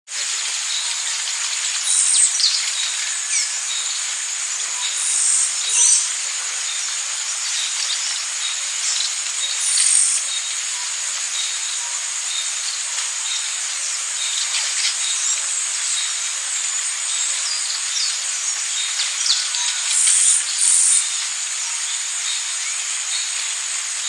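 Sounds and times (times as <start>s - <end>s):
high-pitched insect chorus: 0.1s - 24.0s
birds calling: 0.5s - 24.0s.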